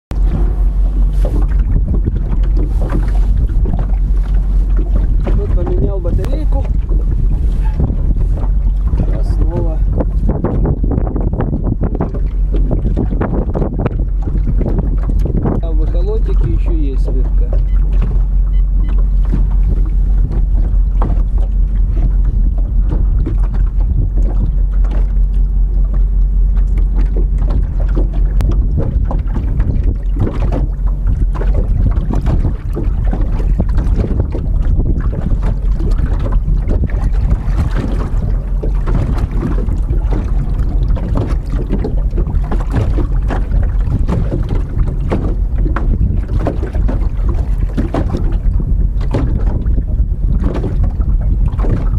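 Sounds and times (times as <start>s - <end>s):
water slapping boat hull: 0.1s - 51.9s
wind buffeting microphone: 0.1s - 51.9s.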